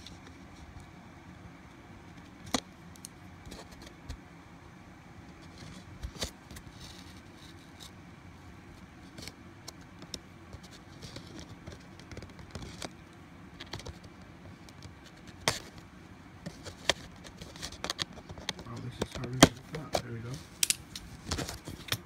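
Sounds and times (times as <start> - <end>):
disc packaging clicks and rustles: 2.1 - 4.2, 5.2 - 8.0, 8.7 - 22.0.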